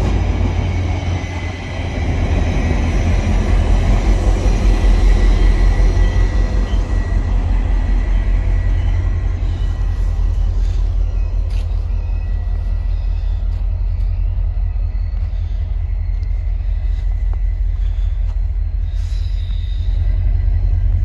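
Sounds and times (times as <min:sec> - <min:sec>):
train rumbling down the track: 0:00.0 - 0:21.0.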